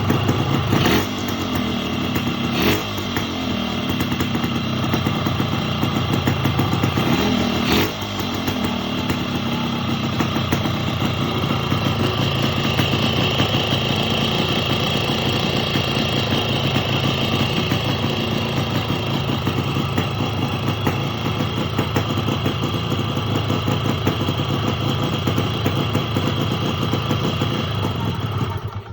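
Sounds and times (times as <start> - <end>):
two-stroke motorcycle engine running: 0.0 - 28.9.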